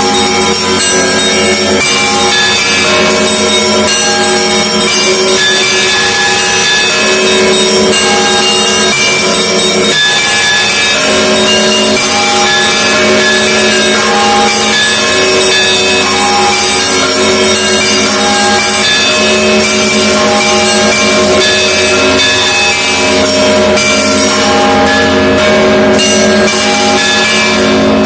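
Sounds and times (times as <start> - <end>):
church bells pealing: 0.0 - 28.0.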